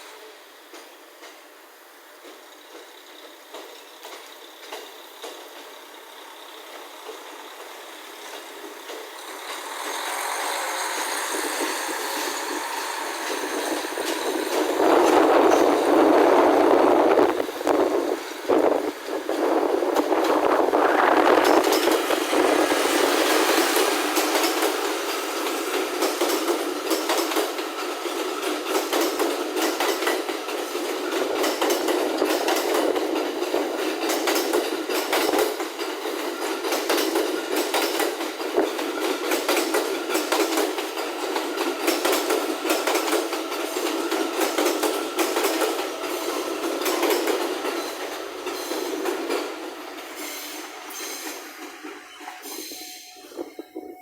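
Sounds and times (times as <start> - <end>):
train wheels clattering: 2.2 - 54.0.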